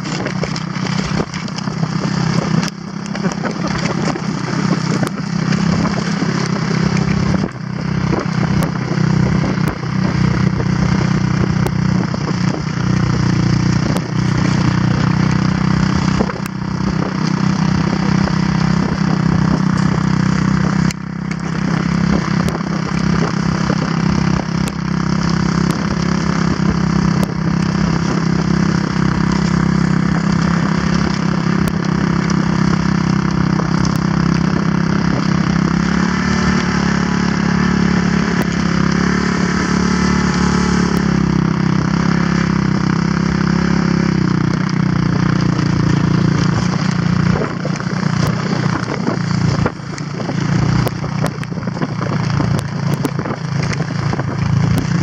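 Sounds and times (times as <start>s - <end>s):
quad bike engine running: 0.0s - 55.0s
sleds hissing over snow: 0.0s - 55.0s.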